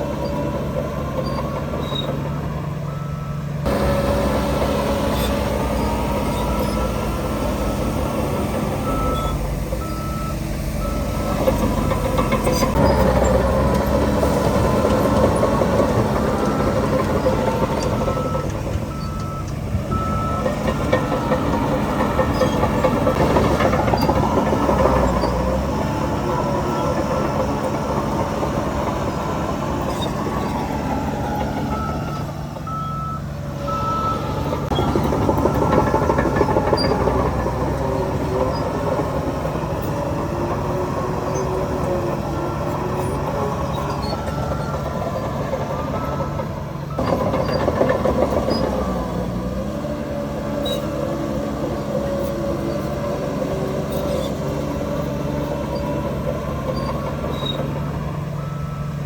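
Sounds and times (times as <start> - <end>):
heavy diesel machinery running: 0.0 - 59.0
reversing alarm beeping: 0.3 - 23.1, 23.9 - 38.7, 41.2 - 47.6, 55.5 - 59.0.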